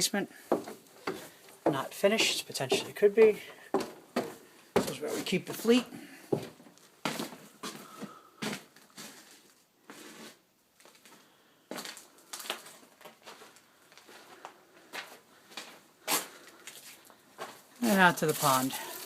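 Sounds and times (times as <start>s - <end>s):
footsteps scuffs and knocks: 0.0s - 10.2s, 10.8s - 19.0s.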